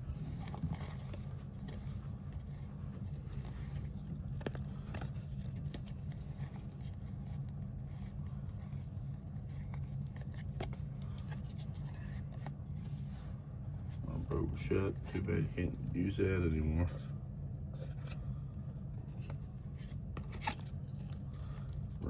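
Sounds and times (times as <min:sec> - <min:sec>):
cards crackling and scraping: 0:00.0 - 0:17.0, 0:17.8 - 0:22.0
steady low hum: 0:00.0 - 0:22.0.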